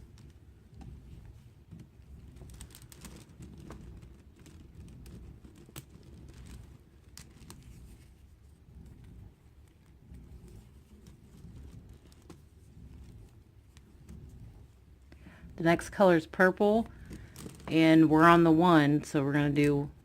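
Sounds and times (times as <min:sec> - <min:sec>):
muffled fabric handling: 0:00.0 - 0:18.8.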